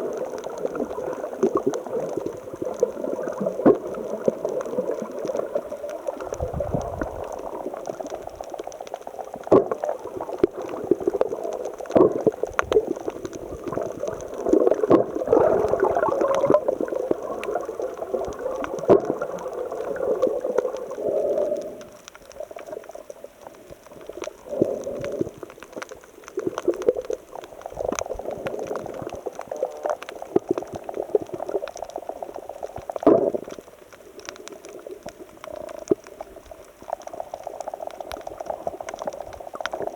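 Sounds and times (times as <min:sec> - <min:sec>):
sea water surging among rocks: 0:00.0 - 0:39.9.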